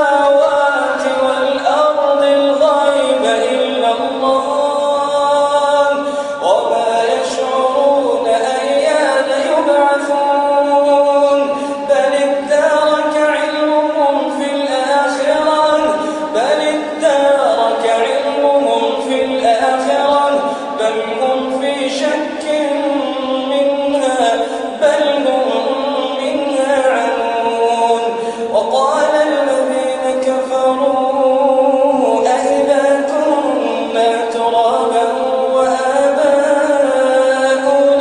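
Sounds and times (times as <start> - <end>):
man chanting melodically: 0.0 - 38.0.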